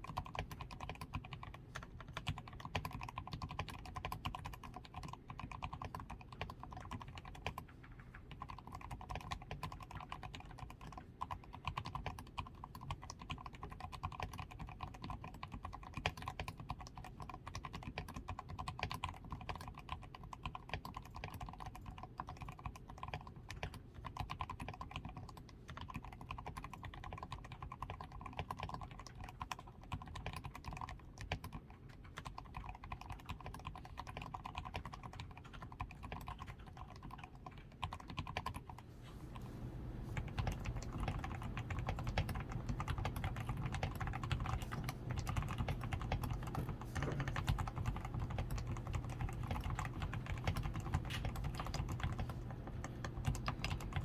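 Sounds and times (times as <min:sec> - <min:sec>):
fast typing on mechanical keyboard: 0:00.0 - 0:38.8, 0:39.6 - 0:54.0.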